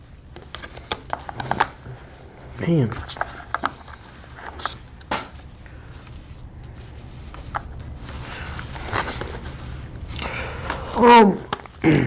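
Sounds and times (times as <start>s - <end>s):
low room hum: 0.0s - 12.0s
cards clicking and rustling: 0.2s - 12.0s.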